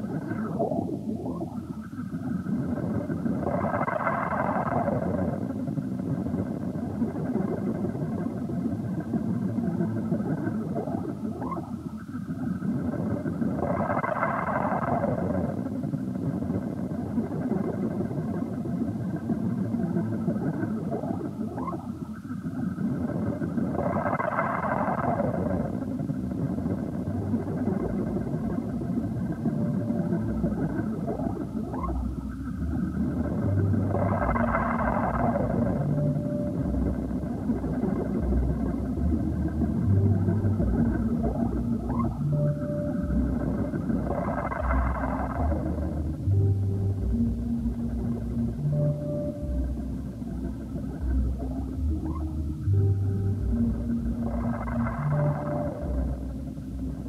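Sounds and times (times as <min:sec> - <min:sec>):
experimental electronic drone music: 0:00.0 - 0:57.0.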